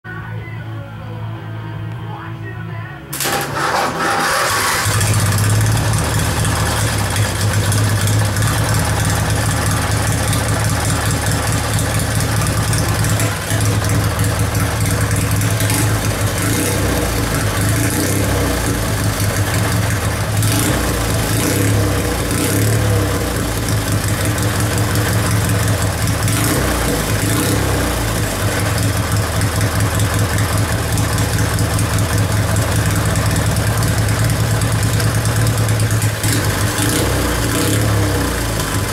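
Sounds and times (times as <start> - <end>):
lawn mower engine idling: 3.1 - 38.9.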